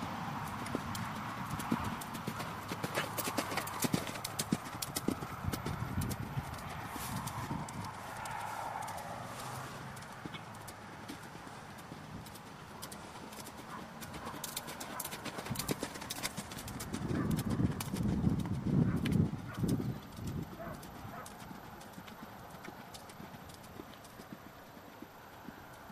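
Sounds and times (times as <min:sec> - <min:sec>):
horse hooves cantering on sand: 0:00.0 - 0:25.9.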